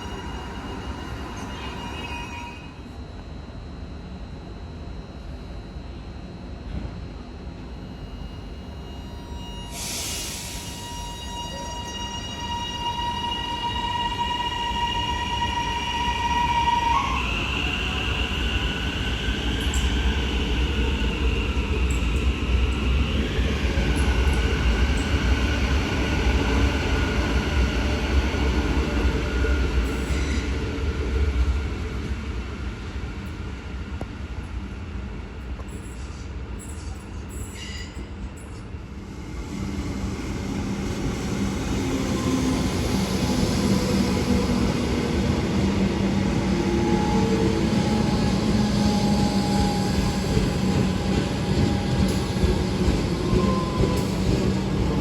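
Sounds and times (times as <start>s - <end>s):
train wheels squealing: 0.0s - 3.0s, 7.8s - 30.9s, 35.6s - 55.0s
approaching train hum: 7.6s - 37.4s, 38.1s - 55.0s
train rumbling: 8.9s - 55.0s.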